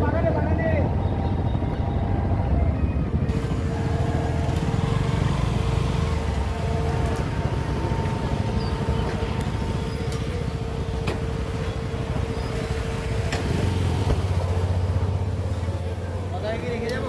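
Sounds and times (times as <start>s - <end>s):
constant whine: 0.0s - 17.0s
motorcycle engines running: 0.0s - 17.0s.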